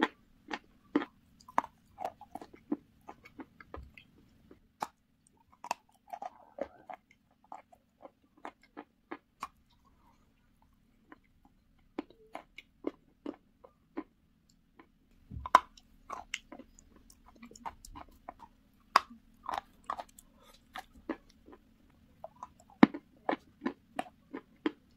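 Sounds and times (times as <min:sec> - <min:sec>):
crunching and chewing chalk: 0:00.0 - 0:24.9.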